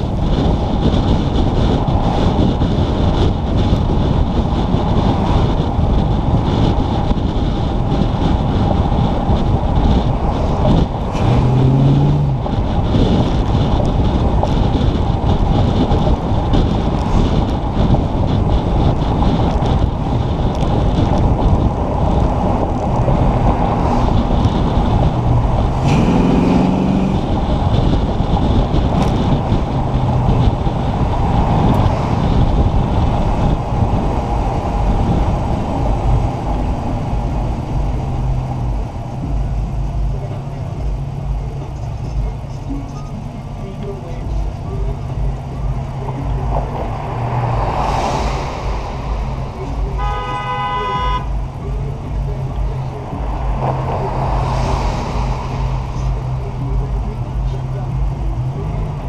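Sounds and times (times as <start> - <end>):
engine and road rumble: 0.0 - 59.0
wind buffeting microphone: 0.0 - 59.0.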